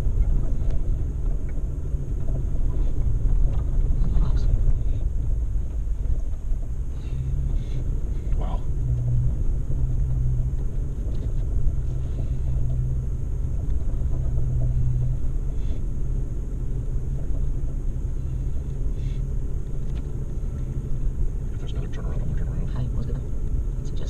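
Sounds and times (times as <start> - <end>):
off-road vehicle engine droning: 0.0 - 24.0.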